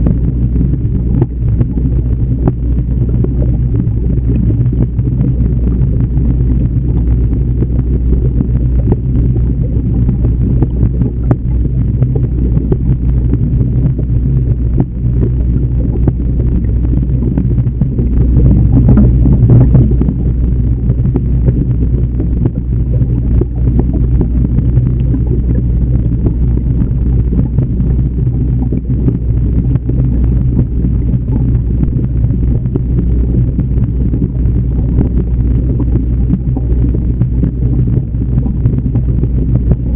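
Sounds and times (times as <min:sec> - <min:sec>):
underwater rumble and hum: 0:00.0 - 0:39.9.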